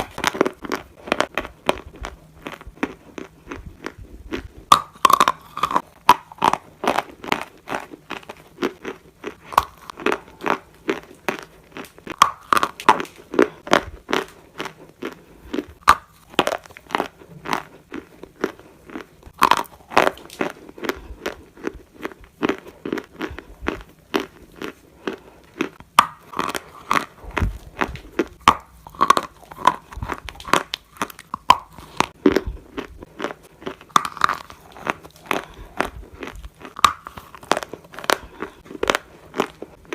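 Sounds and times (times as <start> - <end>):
clay crunching while chewed: 0.0 - 39.9.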